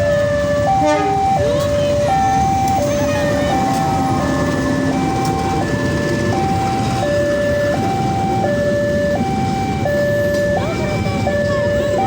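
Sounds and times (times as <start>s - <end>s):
two-tone electronic alarm: 0.0s - 12.0s.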